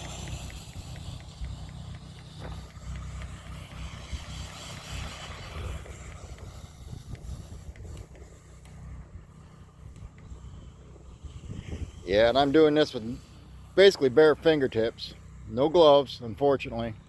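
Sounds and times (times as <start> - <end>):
rc car motor and tyres on snow: 0.0 - 17.0
steady low rumble: 0.0 - 17.0.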